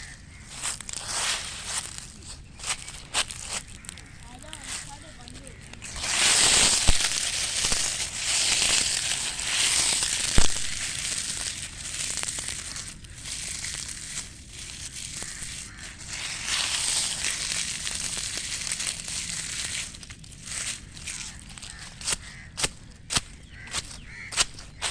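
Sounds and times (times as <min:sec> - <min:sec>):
dry leaves crunching: 0:00.0 - 0:24.9.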